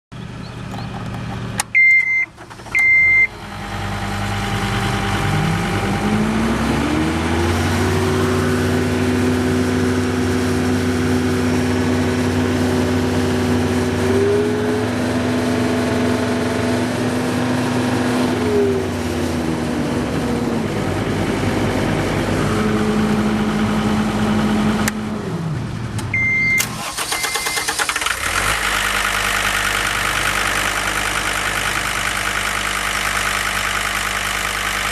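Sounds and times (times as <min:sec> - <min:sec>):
diesel engine revving and idling: 0:00.2 - 0:34.9.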